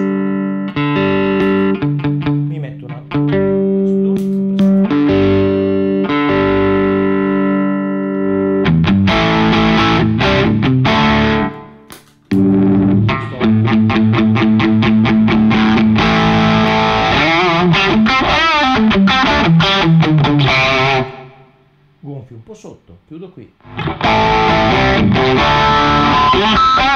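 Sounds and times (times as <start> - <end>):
distorted electric guitar: 0.0 - 21.6, 23.6 - 26.9.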